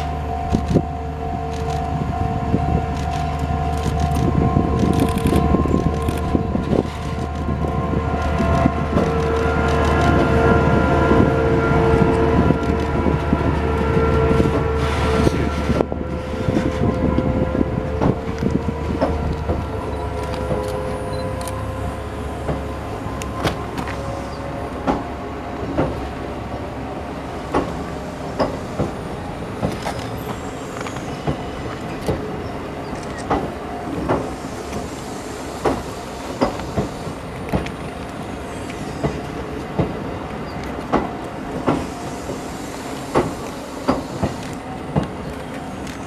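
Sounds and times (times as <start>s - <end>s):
train rumble: 0.0s - 46.0s
train wheels clacking on rail joints: 2.5s - 26.6s, 27.4s - 46.0s.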